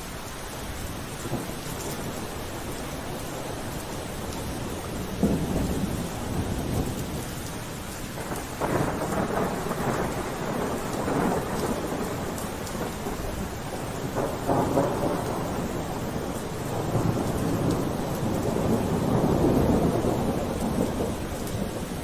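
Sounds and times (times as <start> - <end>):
steady rain falling: 0.0 - 22.0
thunder rumbling: 1.2 - 7.6, 8.2 - 22.0.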